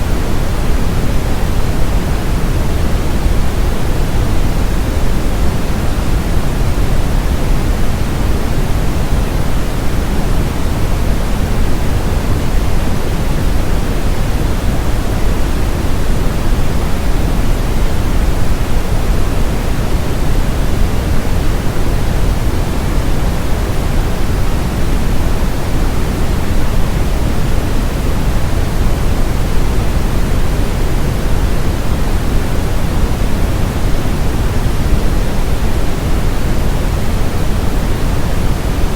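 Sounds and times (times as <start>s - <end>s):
brown noise rumbling hiss: 0.0s - 38.9s.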